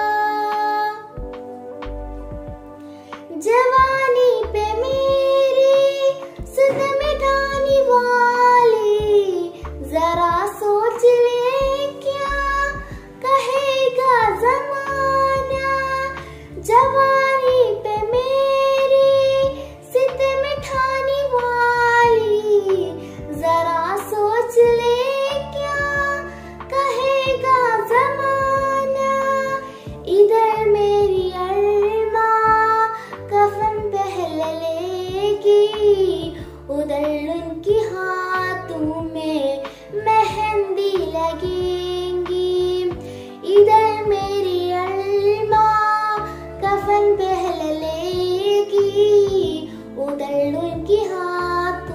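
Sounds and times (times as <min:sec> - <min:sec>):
girl singing: 0:00.0 - 0:01.3, 0:03.2 - 0:51.9
low steady accompaniment: 0:00.0 - 0:51.9.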